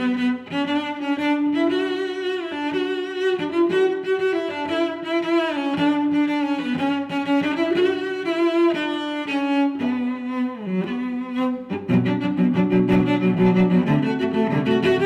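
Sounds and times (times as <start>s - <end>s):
bowed cello melody: 0.0s - 15.0s.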